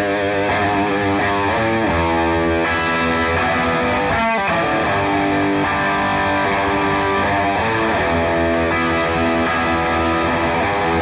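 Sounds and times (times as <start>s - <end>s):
overdriven electric guitar chords: 0.0s - 11.0s.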